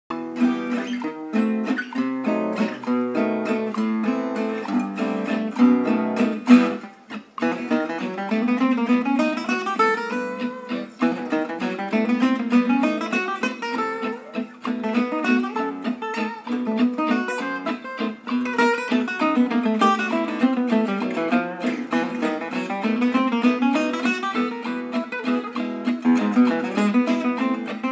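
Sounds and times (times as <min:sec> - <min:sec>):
plucked acoustic guitar music: 0:00.1 - 0:27.9.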